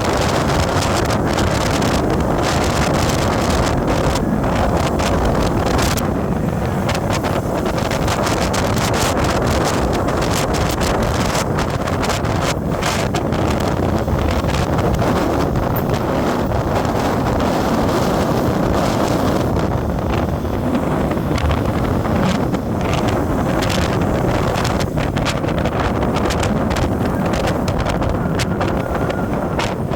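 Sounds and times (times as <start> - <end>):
microphone crackles from gusts: 0.0 - 29.9
vehicle engine and road noise: 0.0 - 29.9
wind buffeting microphone: 0.0 - 29.9.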